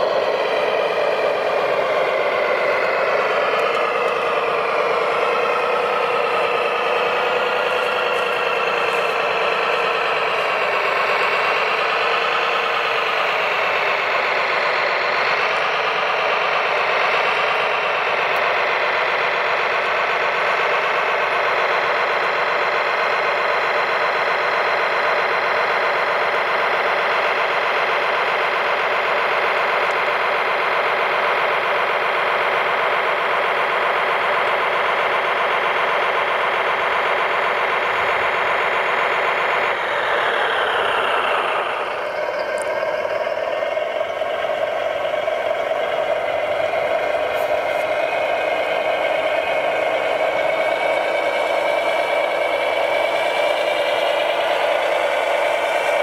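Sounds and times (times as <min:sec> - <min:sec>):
toy dozer motor droning: 0:00.0 - 0:56.0.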